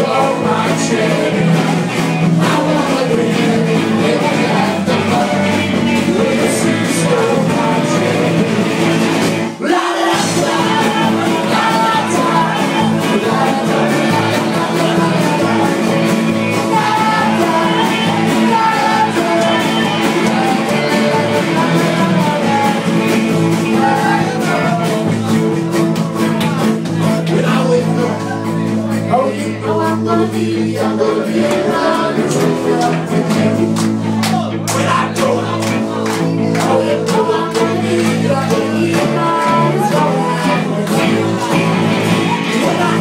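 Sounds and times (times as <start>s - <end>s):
live rock band with singer: 0.0s - 43.0s.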